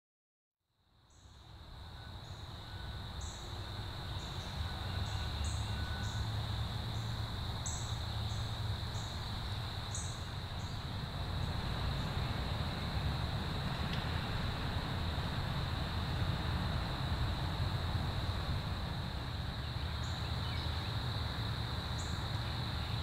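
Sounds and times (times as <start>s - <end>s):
high insect chirps: 1.0s - 23.0s
insects trilling: 1.0s - 23.0s.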